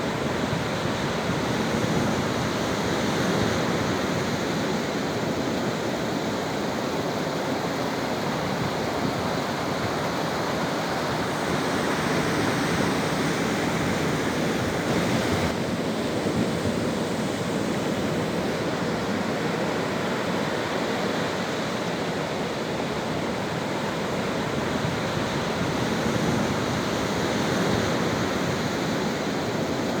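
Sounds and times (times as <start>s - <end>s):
sea waves washing onto beach: 0.0s - 30.0s.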